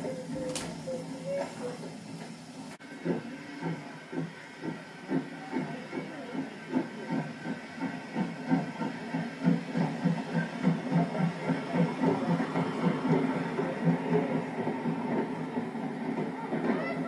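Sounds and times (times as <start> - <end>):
steam locomotive chuffing: 0.0 - 17.0
train rumble: 0.0 - 17.0.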